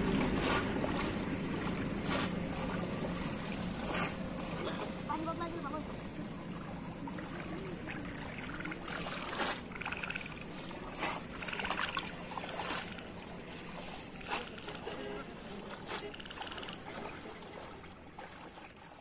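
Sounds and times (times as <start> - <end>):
sharp splashes: 0.0 - 5.0, 6.6 - 18.9
water splashing and sloshing: 0.0 - 19.0.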